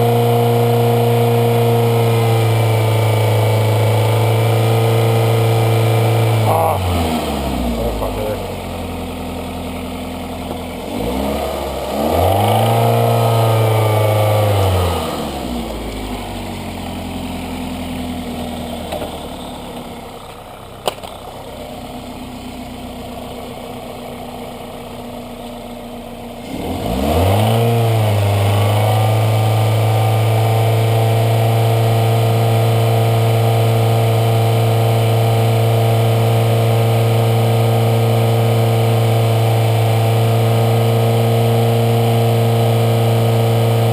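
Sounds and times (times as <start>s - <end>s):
car engine revving: 0.0s - 25.1s, 26.3s - 43.9s.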